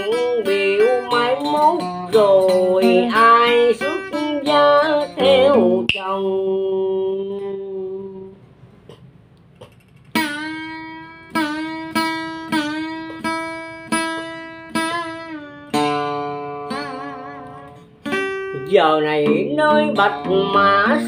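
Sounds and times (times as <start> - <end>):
acoustic guitar plucked notes: 0.0 - 8.3, 8.9 - 21.0.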